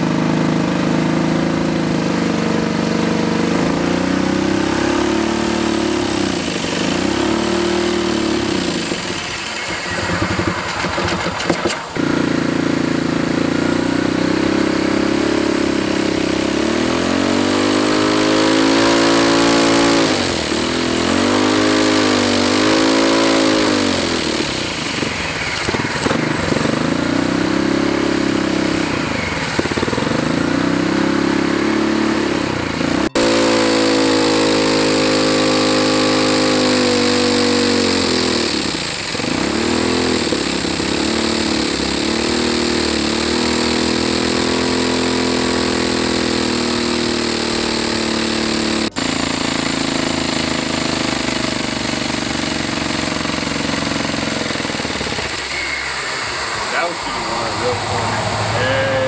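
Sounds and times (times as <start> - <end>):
engine revving under load: 0.0 - 59.0.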